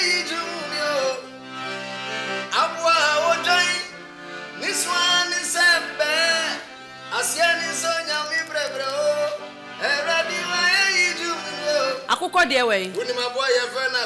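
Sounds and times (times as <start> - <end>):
accordion playing chords: 0.0 - 14.0.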